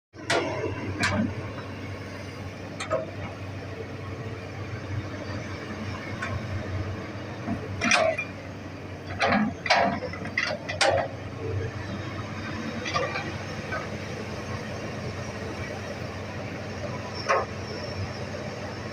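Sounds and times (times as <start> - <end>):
excavator diesel engine running: 0.2 - 18.9.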